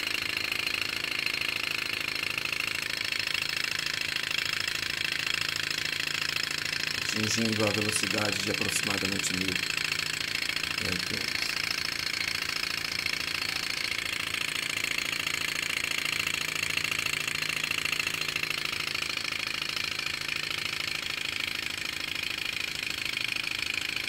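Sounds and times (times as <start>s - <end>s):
engine mechanical clatter: 0.0s - 24.0s.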